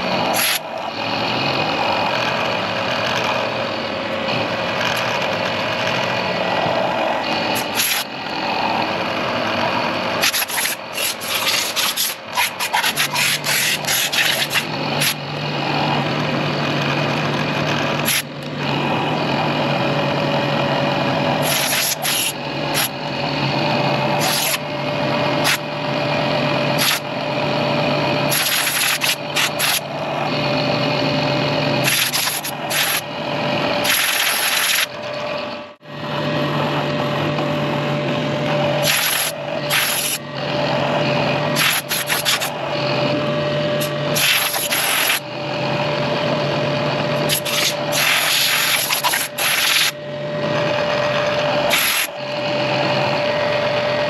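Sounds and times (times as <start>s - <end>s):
milling machine motor hum: 0.0s - 54.0s
rough rasping metal cutting: 0.0s - 54.0s.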